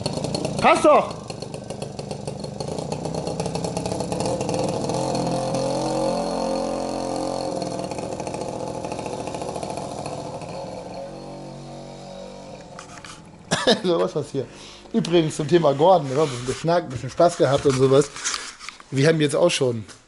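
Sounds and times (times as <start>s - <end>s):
motorcycle engine running: 0.0s - 16.1s.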